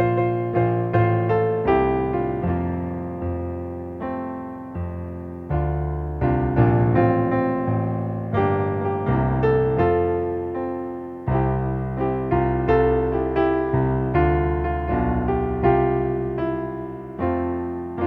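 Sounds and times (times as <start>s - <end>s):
slow solo piano chords: 0.0s - 18.0s.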